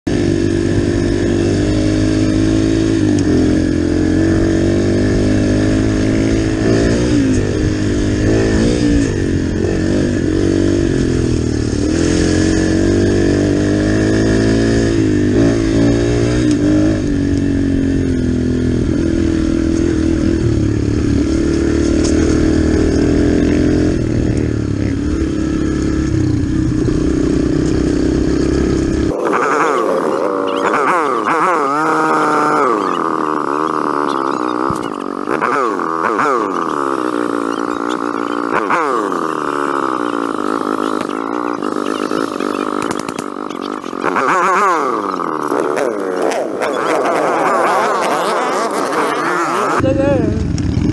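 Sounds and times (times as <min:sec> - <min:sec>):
dirt bike engine revving: 0:00.1 - 0:50.9.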